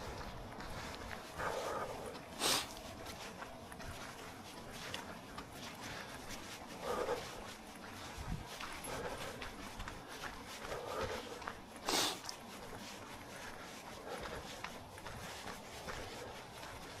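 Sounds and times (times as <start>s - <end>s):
footsteps running on dirt: 0.0s - 17.0s.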